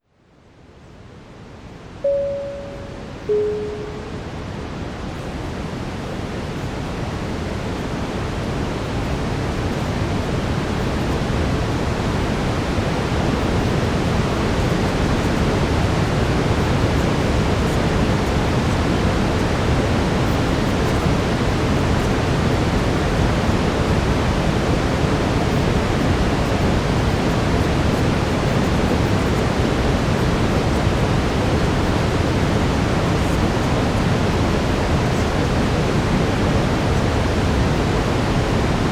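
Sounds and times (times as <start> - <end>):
brown noise rushing hiss: 5.0 - 38.9.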